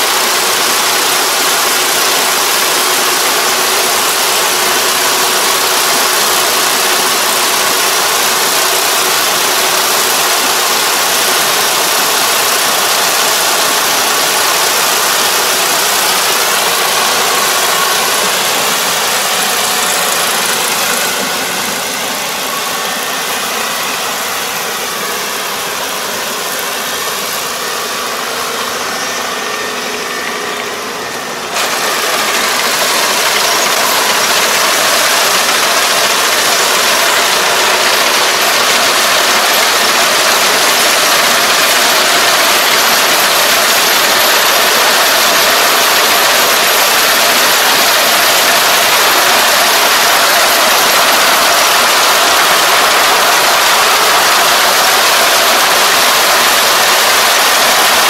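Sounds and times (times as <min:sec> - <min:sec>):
combine harvester drone: 0:00.0 - 0:58.0
whirring hiss: 0:00.0 - 0:58.0.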